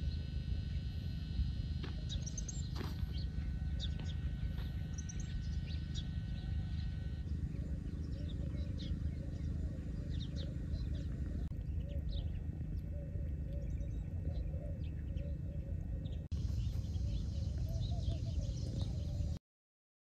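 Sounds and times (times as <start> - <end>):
steady low rumble: 0.0 - 19.4
small birds chirping: 1.7 - 19.4
soft repeated bird calls: 1.8 - 19.4.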